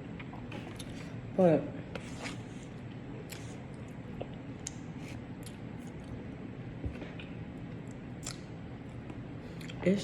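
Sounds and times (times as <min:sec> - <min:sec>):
low background hum: 0:00.0 - 0:10.0
soft chewing and sucking: 0:00.1 - 0:01.2, 0:02.0 - 0:06.3, 0:07.0 - 0:09.8.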